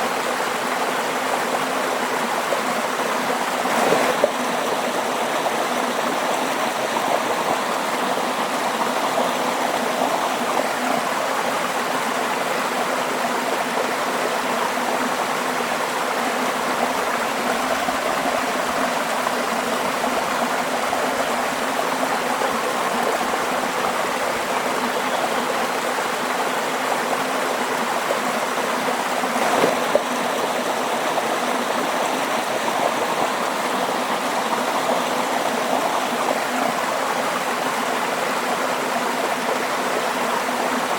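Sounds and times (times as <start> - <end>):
running water flowing: 0.0 - 40.9.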